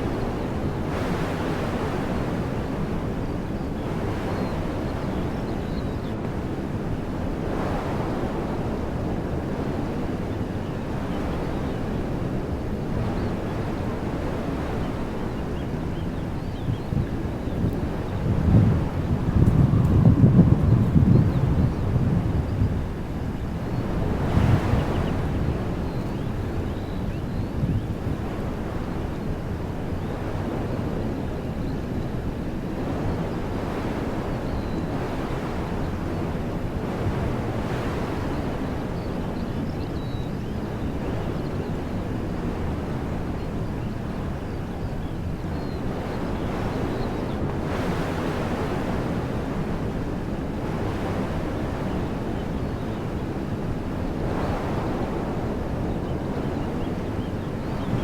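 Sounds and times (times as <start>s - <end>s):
wind rumble on microphone: 0.0s - 58.0s
wind through trees: 0.0s - 58.0s.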